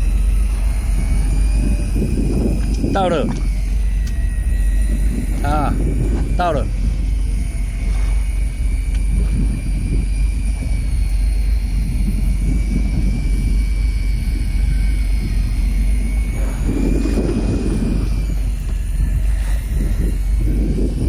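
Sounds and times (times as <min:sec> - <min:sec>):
boat engine droning: 0:00.0 - 0:21.0
faint steady whine: 0:00.0 - 0:21.0.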